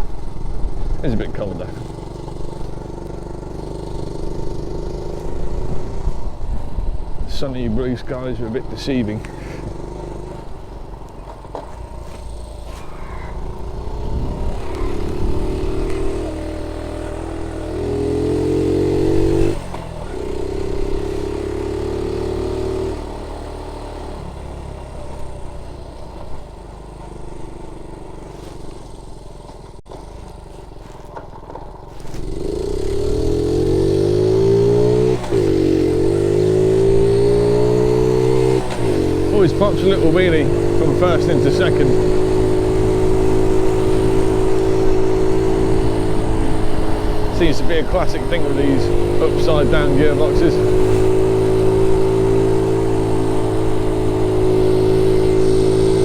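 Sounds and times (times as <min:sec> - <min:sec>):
small motorbike engine revving: 0:00.0 - 0:56.0.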